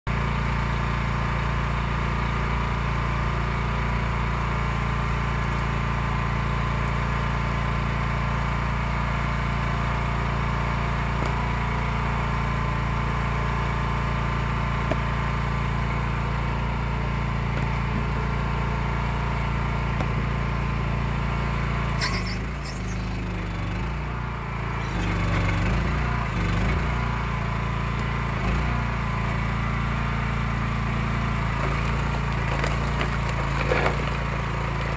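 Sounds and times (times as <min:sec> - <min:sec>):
engine running: 0:00.1 - 0:34.9.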